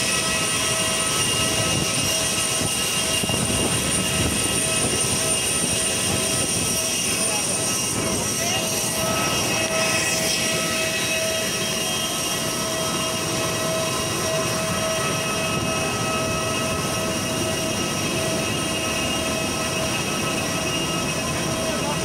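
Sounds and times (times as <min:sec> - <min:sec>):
jet airliner whine and roar: 0:00.0 - 0:22.0.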